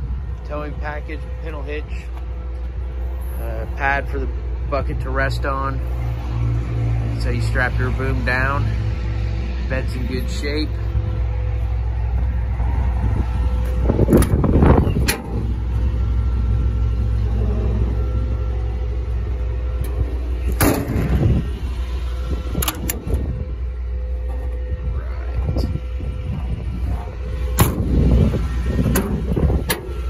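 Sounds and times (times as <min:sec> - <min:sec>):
engine idling rumble: 0:00.0 - 0:30.0
engine knocks and clatters: 0:00.0 - 0:30.0.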